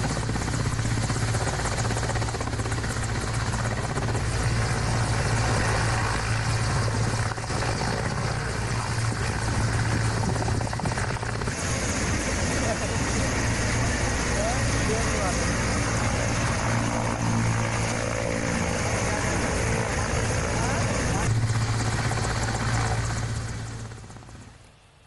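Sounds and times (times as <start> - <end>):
helicopter rotor and turbine drone: 0.0 - 25.0.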